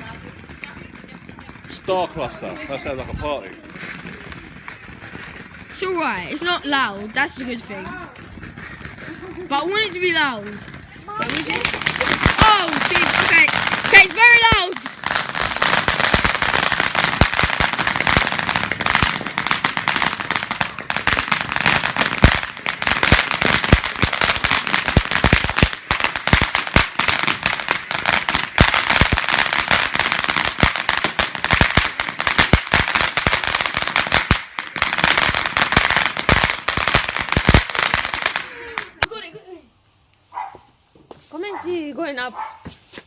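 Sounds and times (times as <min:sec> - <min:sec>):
fireworks crackling bangs: 0:00.0 - 0:39.6.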